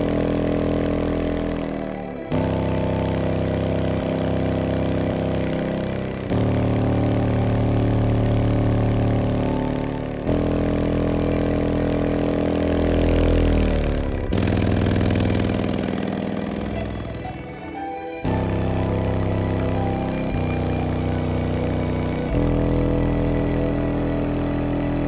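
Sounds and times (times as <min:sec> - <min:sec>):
subwoofer playing bass notes: 0:00.0 - 0:25.0.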